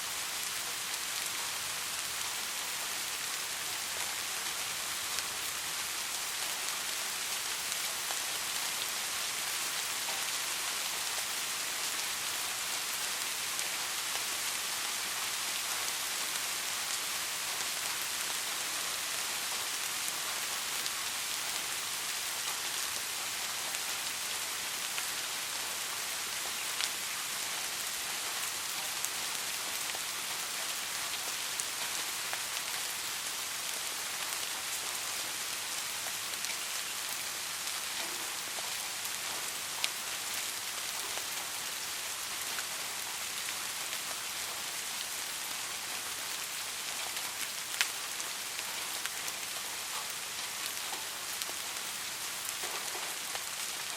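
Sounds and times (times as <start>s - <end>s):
soft rain hiss: 0.0s - 53.9s
raindrops ticking on surface: 0.2s - 53.9s.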